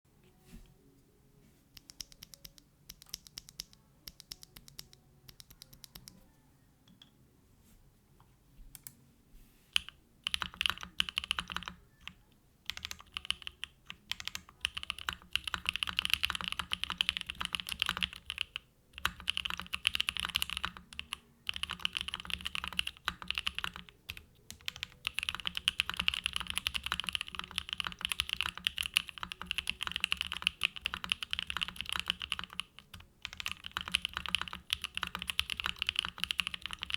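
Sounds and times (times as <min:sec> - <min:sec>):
mechanical keyboard typing: 0:01.8 - 0:06.2, 0:09.8 - 0:36.9.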